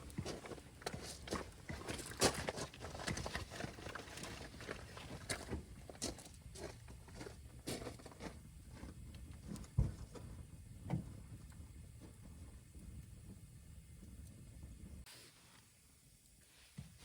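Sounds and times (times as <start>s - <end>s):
campfire crackling: 0.0s - 15.8s.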